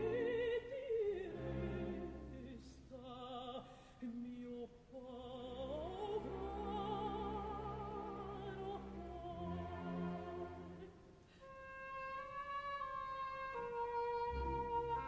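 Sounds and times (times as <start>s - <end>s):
soprano singing: 0.0s - 15.0s.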